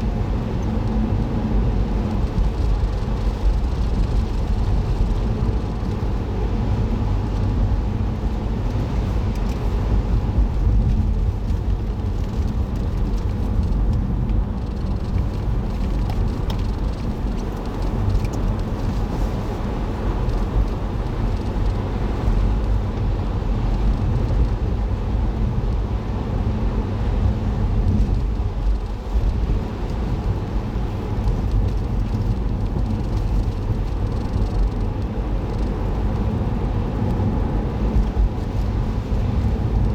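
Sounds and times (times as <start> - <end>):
car engine and tyre road noise: 0.0 - 39.9.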